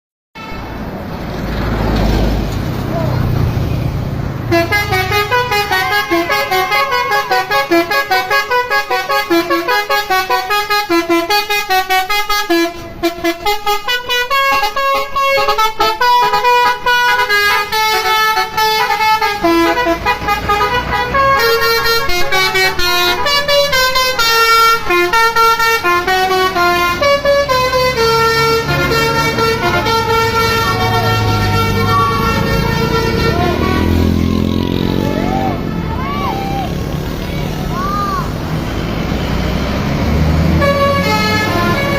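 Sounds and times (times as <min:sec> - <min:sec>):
bus musical horn melody: 0:00.3 - 0:01.0, 0:04.5 - 0:41.9.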